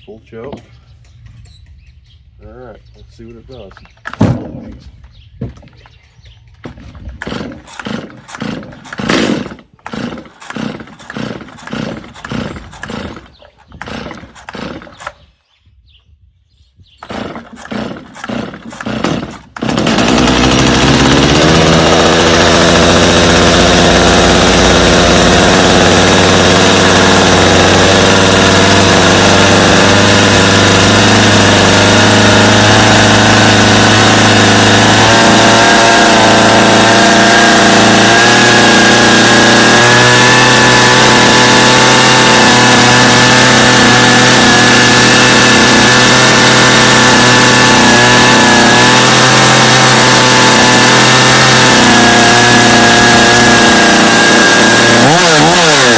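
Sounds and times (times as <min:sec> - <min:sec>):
chainsaw starter cord pulls: 0:03.7 - 0:04.8, 0:06.6 - 0:15.3, 0:17.0 - 0:55.9
chainsaw engine running: 0:03.8 - 0:04.8, 0:06.6 - 0:15.3, 0:17.0 - 0:55.9.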